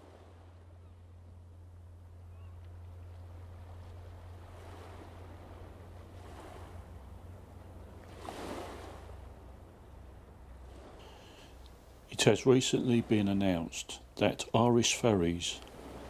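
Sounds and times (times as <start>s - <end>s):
steady low hum: 0.0s - 14.8s
small waves washing in: 0.0s - 16.0s.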